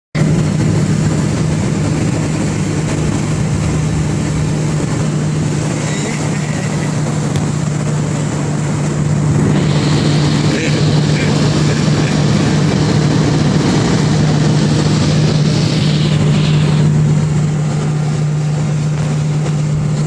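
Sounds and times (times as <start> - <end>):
car engine drone: 0.1 - 20.0.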